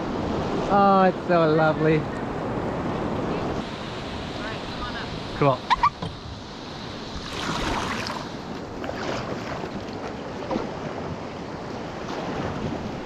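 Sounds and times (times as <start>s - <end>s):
river water rushing and splashing: 0.0s - 13.0s
wind on microphone: 0.0s - 13.0s.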